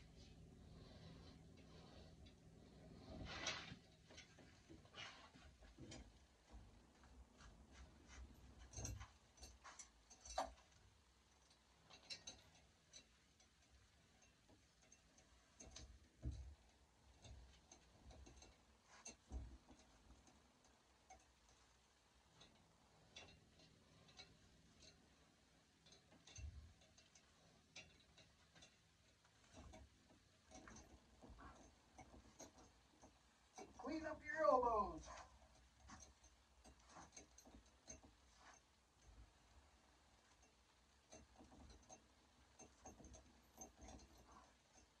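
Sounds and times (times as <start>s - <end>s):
faint clicks and scrapes: 0.0s - 45.0s.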